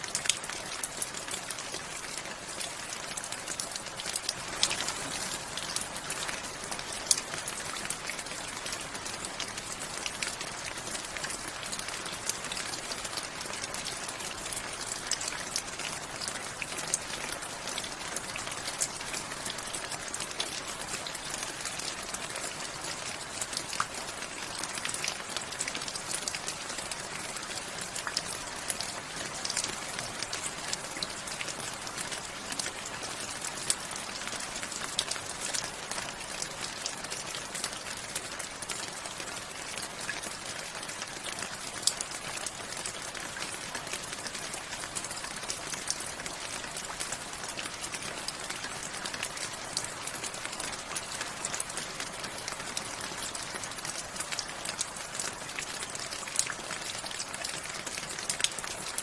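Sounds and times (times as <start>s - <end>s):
hiss of rainfall: 0.0s - 59.0s
raindrops ticking on hard surface: 0.0s - 59.0s.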